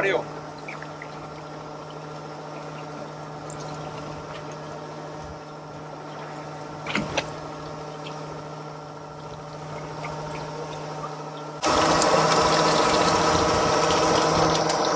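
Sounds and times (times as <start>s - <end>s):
motor humming: 0.0s - 14.9s.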